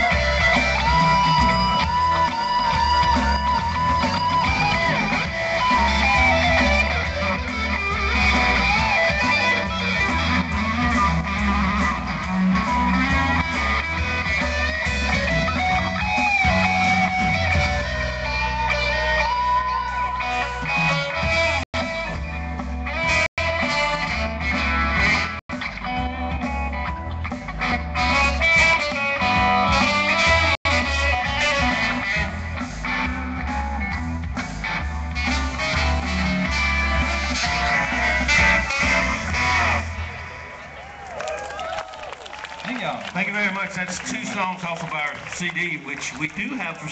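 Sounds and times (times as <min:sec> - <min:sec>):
guitar: 0:00.0 - 0:41.6
bass guitar: 0:00.0 - 0:41.8
live band playing: 0:00.0 - 0:46.9.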